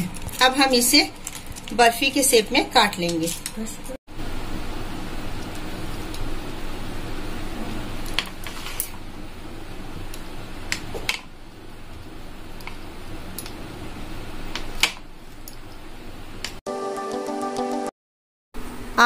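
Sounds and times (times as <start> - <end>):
fan-like hum: 0.0 - 16.6.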